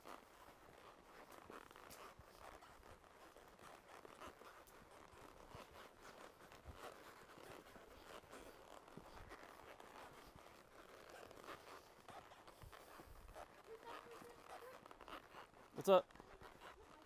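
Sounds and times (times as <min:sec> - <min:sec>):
horse walking on trail: 0:00.0 - 0:17.0.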